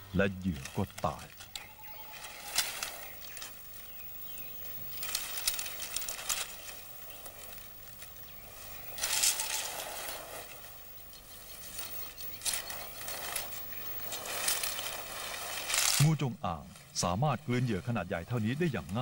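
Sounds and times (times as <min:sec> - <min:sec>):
dry leaves rustling and crackling: 0:00.0 - 0:19.0.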